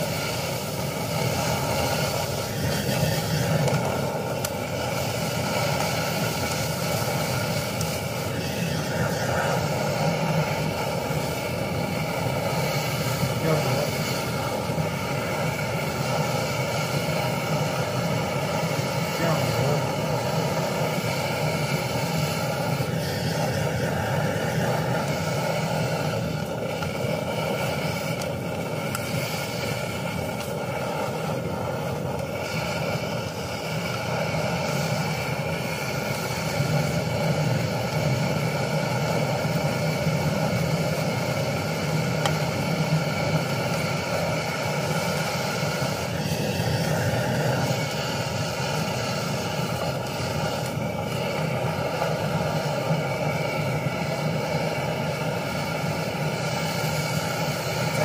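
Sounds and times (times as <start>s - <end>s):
food sizzling in a wok: 0.0s - 58.0s
gas stove roaring: 0.0s - 58.0s.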